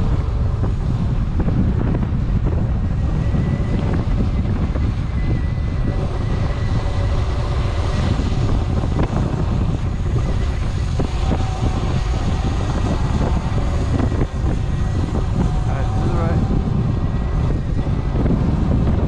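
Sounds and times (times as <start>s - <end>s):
electric motor whine: 0.0s - 19.0s
wind noise on microphone: 0.0s - 19.0s.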